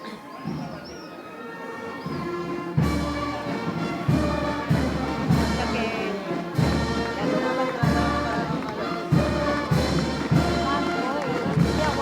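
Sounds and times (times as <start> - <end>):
brass chords: 2.3 - 12.0.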